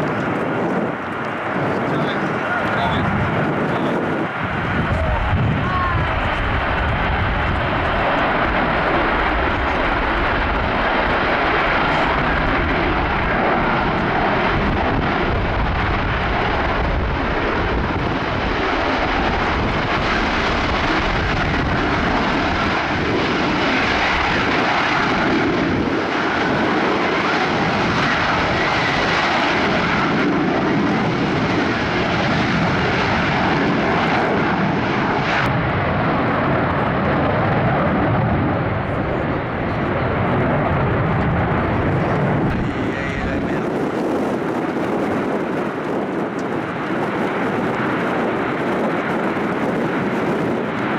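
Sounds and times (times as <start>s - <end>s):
jet engine roar: 0.0s - 50.9s.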